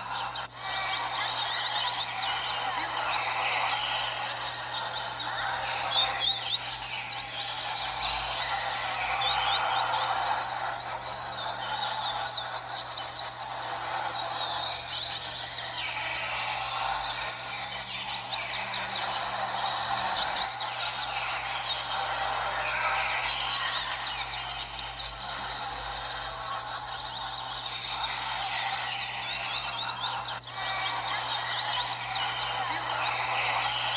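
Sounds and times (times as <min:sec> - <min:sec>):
many birds chirping: 0:00.0 - 0:33.9
steady low hum: 0:00.0 - 0:33.9.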